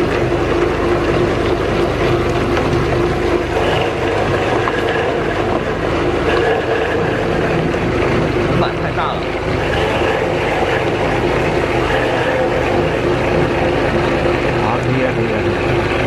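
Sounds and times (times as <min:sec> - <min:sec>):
electric meat grinder humming: 0:00.0 - 0:16.0.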